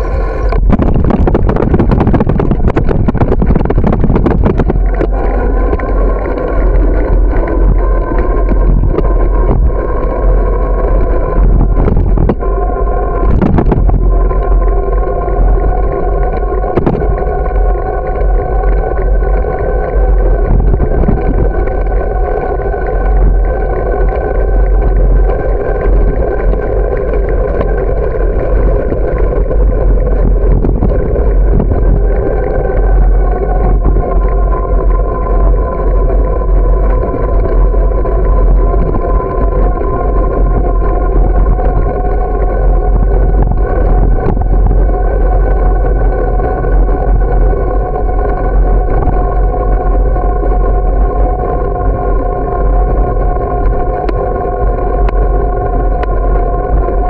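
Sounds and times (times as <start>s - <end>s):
bicycle riding rumble: 0.0s - 57.0s
constant whine: 0.0s - 57.0s
wind on microphone: 0.0s - 57.0s.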